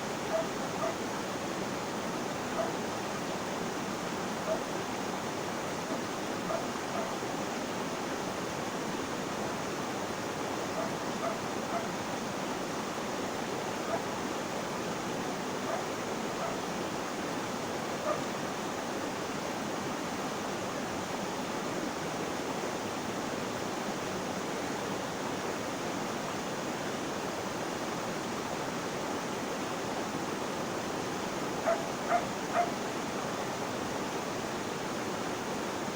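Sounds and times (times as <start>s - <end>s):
flowing water rushing: 0.0s - 35.9s.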